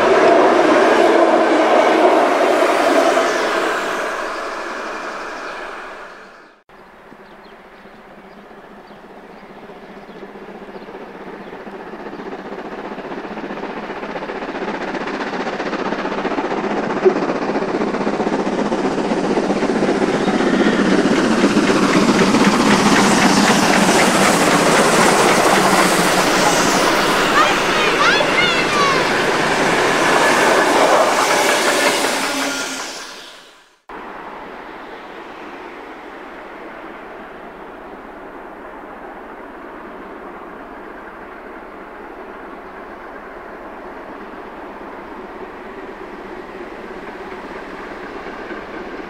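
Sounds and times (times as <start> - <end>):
steam locomotive and coaches passing: 0.0 - 49.0
steam train: 0.0 - 49.0.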